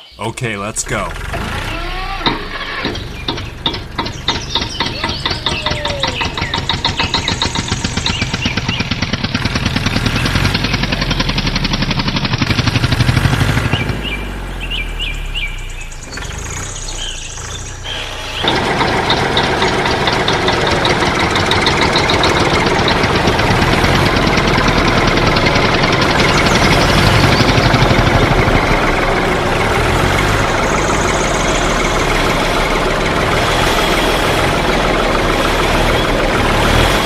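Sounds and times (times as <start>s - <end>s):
heavy vehicle engine pulsing: 0.0s - 37.0s.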